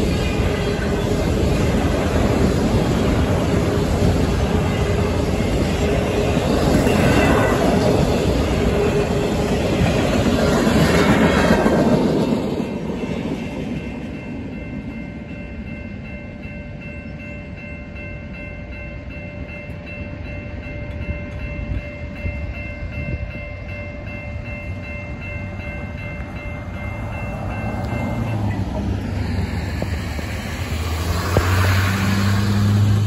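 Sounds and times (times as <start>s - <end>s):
crossing warning bell ringing: 0.0s - 33.0s.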